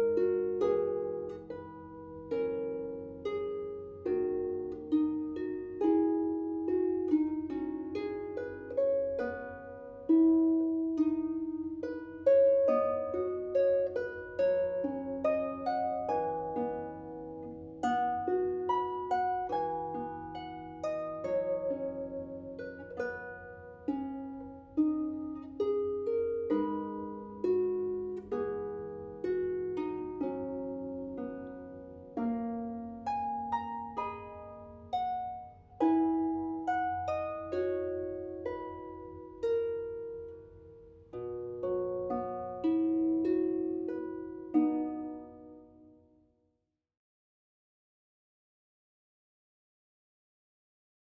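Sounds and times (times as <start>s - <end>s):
solo harp playing: 0.0s - 46.4s.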